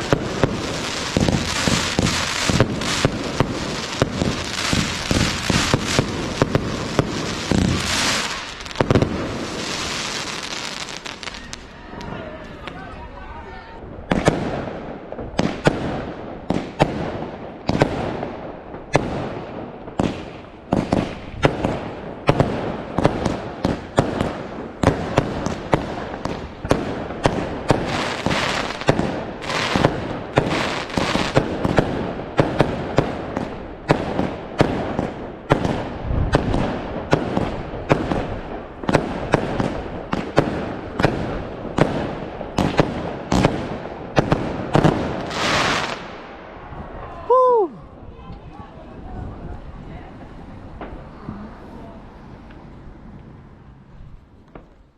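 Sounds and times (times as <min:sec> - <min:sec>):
fireworks crackle: 0:00.0 - 0:13.0, 0:13.6 - 0:47.7
fireworks bangs: 0:00.0 - 0:47.7, 0:48.6 - 0:53.7.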